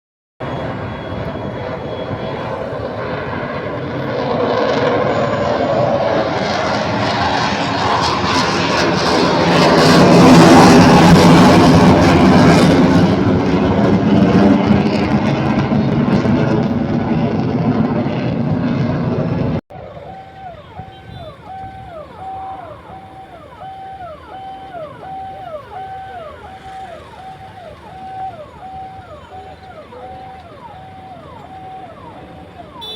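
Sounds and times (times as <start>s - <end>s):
electronic vehicle siren: 0.4s - 14.9s, 19.7s - 32.9s
aircraft flying overhead: 0.4s - 32.9s
traffic rumble: 0.4s - 32.9s.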